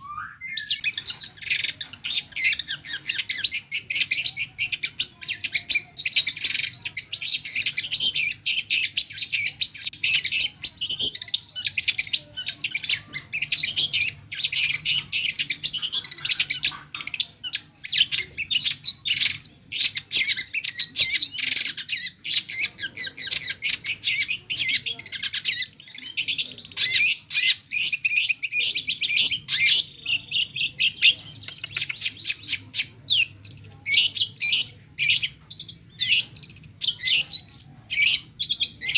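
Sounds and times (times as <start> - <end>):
shrike singing: 0.0 - 38.9.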